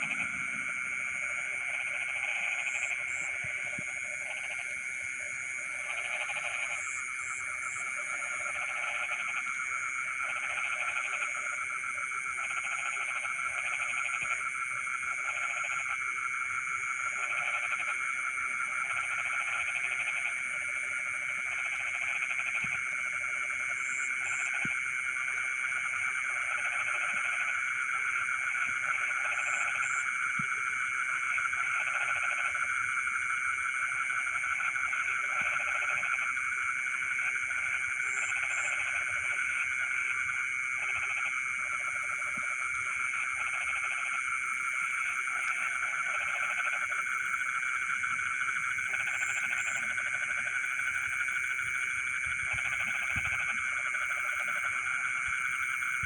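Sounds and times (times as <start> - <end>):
frogs trilling chorus: 0.0 - 56.0
low frog croaks: 0.0 - 56.0.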